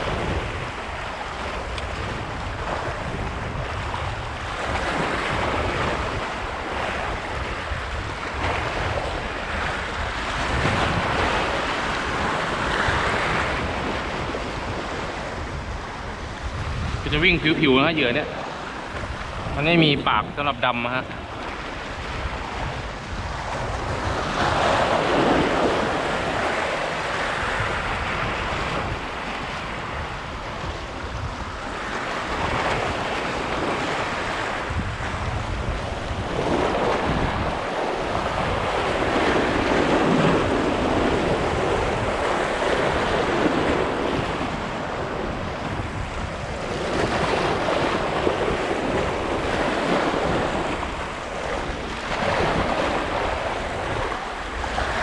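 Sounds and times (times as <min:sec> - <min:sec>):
sea waves washing onto shore: 0:00.0 - 0:55.0
wind buffeting microphone: 0:00.0 - 0:55.0.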